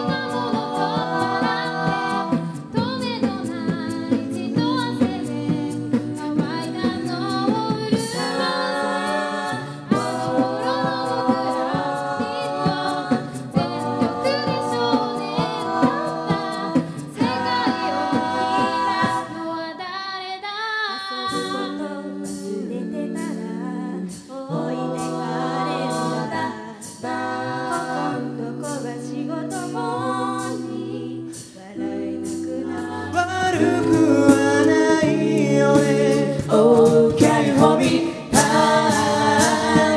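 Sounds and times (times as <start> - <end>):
vocal percussion beat: 0.0 - 20.0, 20.9 - 39.9
a cappella group singing: 0.0 - 39.9.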